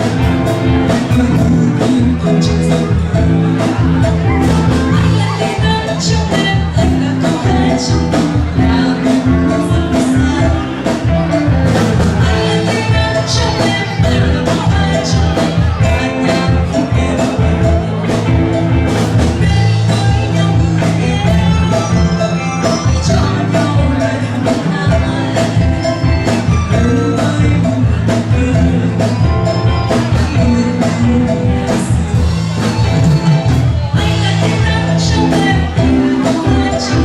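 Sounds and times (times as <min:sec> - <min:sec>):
drum kit beat: 0:00.0 - 0:37.0
live band playing pop: 0:00.0 - 0:37.0.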